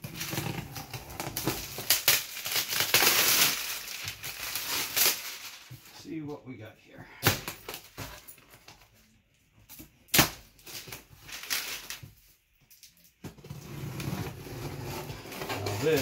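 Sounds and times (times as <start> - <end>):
cardboard and plastic rustling: 0.0 - 6.2, 7.3 - 16.0.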